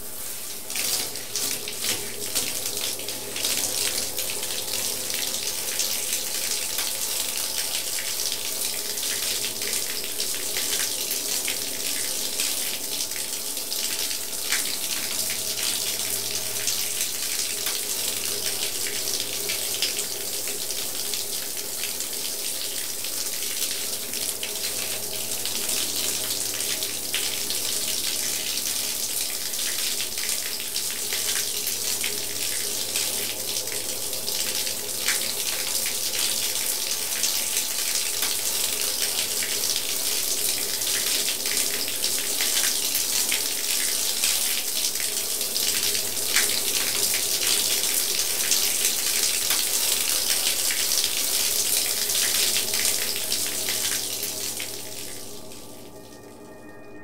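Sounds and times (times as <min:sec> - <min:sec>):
tap water running into bathtub: 0:00.0 - 0:55.9
faint steady hum: 0:00.0 - 0:57.0.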